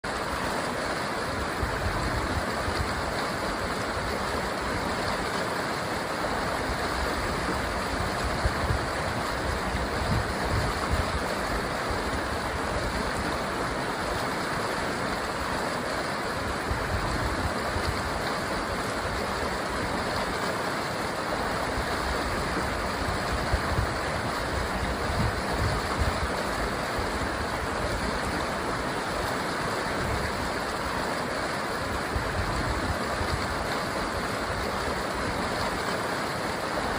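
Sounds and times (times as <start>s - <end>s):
river water flowing: 0.0s - 36.9s.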